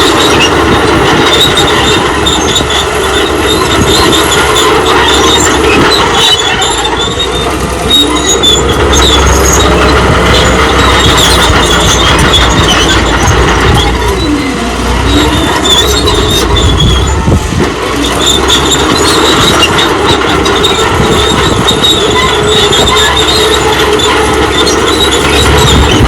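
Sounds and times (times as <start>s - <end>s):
bulldozer engine running: 0.0s - 26.0s
steel tracks squealing and clanking: 0.0s - 26.0s.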